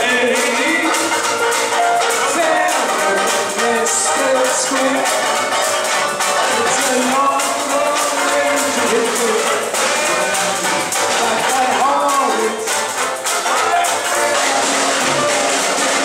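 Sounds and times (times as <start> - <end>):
banjo: 0.0 - 16.0
drums: 0.0 - 16.0
horns playing melodies: 0.0 - 16.0
jazz band playing: 0.0 - 16.0.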